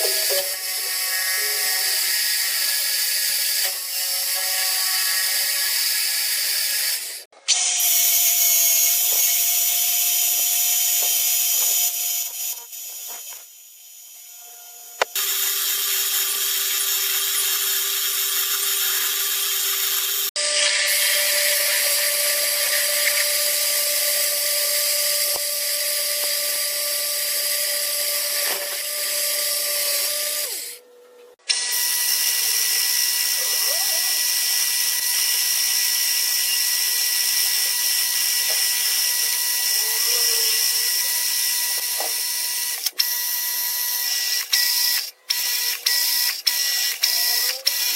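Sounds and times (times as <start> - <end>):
power tools cutting: 0.0 - 30.8, 31.4 - 47.9.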